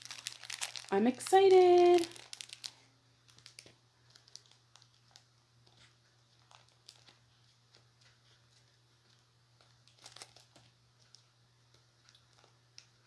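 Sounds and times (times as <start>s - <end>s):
plastic packaging crinkling: 0.0s - 11.3s, 12.0s - 13.0s.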